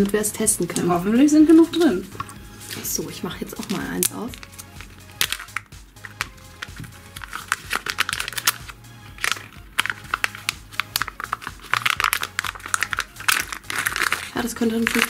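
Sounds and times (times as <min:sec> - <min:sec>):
plastic packaging crinkling: 0:00.0 - 0:15.0
quiet background music with beat: 0:00.0 - 0:15.0.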